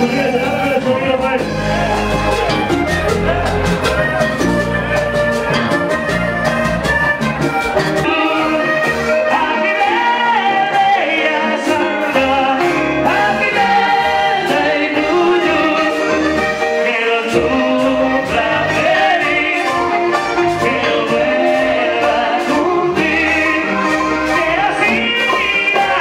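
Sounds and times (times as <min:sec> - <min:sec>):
man singing into microphone: 0:00.0 - 0:05.7, 0:07.9 - 0:26.0
band percussion: 0:00.0 - 0:26.0
live band music: 0:00.0 - 0:26.0.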